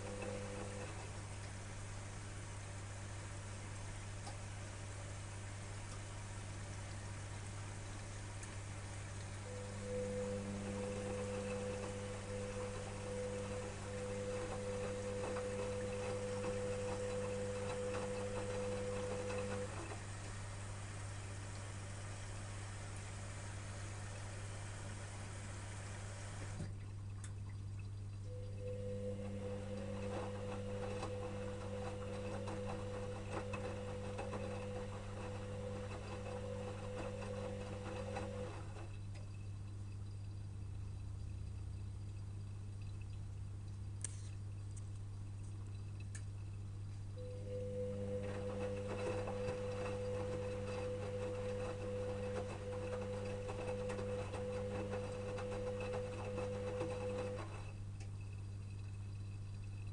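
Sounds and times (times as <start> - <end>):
washing machine motor whine: 0.0 - 27.2, 27.9 - 44.3, 46.6 - 59.9.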